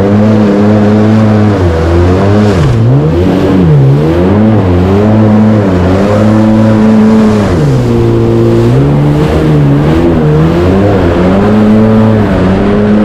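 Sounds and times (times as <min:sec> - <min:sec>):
motor engine revving: 0:00.0 - 0:13.0.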